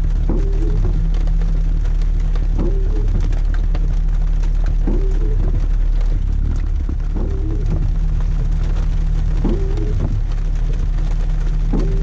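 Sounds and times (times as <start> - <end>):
engine idling: 0.0 - 12.0
rain tapping on windshield: 0.0 - 12.0
windshield wipers sweeping: 0.0 - 12.0.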